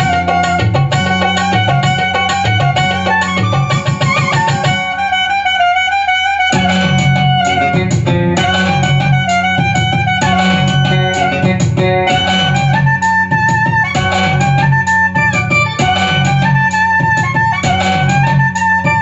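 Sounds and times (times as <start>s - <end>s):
clarinet melody: 0.0s - 19.0s
keyboard bass and drum rhythm: 0.0s - 19.0s.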